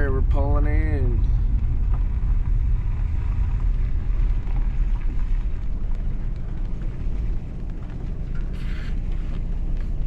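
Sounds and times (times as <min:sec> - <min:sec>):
vehicle rumble at low speed: 0:00.0 - 0:10.0.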